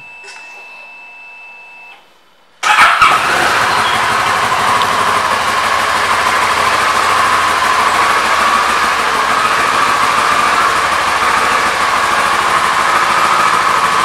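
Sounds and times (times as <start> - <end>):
motorcycle engine starting and idling: 2.6 - 14.0.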